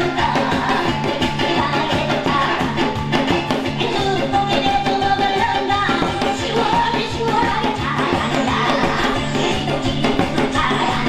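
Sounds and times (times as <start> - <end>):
upbeat music with singing: 0.0 - 11.0.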